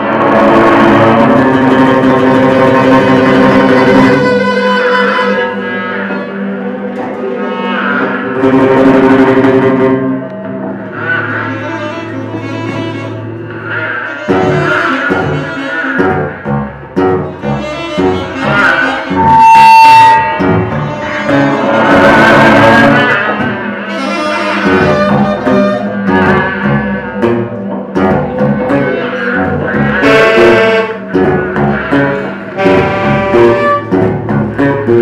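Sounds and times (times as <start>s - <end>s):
loud steady high tone: 0.0s - 35.0s
noisy swell: 0.0s - 35.0s
saxophone: 0.0s - 35.0s
shifting pitched layers: 1.2s - 35.0s.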